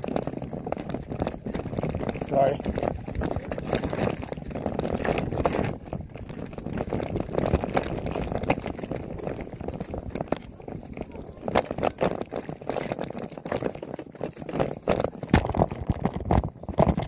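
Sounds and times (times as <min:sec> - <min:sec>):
bike rattling over rocks: 0:00.0 - 0:17.0
bike tyres crunching over gravel: 0:00.0 - 0:17.0.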